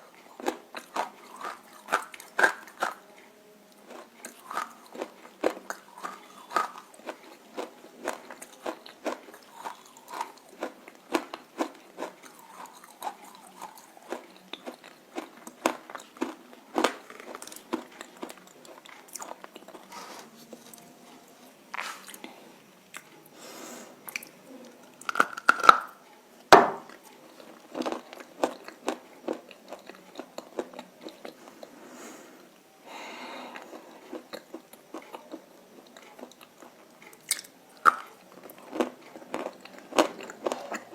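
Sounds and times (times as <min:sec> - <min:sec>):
soft chewing: 0:00.0 - 0:40.9.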